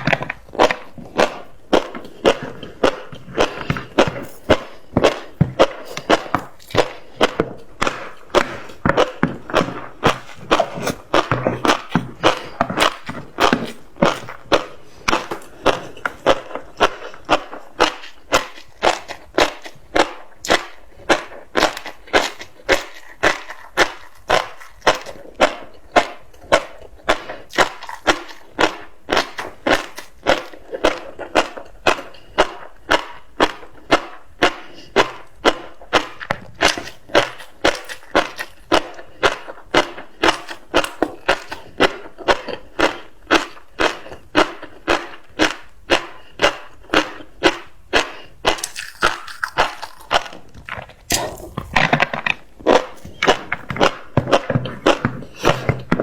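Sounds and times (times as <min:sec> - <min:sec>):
fish roe crunching while chewing: 0:00.0 - 0:56.0.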